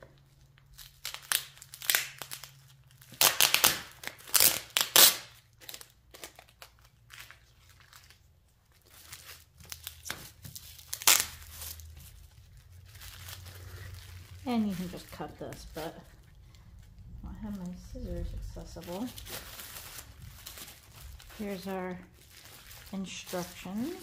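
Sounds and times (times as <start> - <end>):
plastic packaging crinkling and tearing: 0.0 - 24.0.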